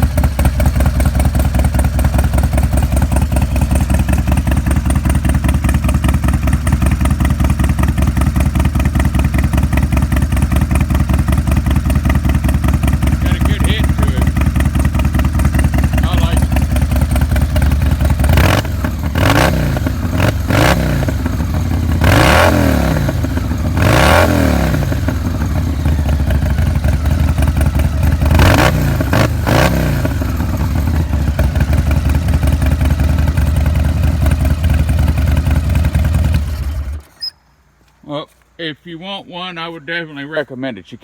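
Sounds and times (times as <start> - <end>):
motorcycle engine revving and idling: 0.0 - 37.3.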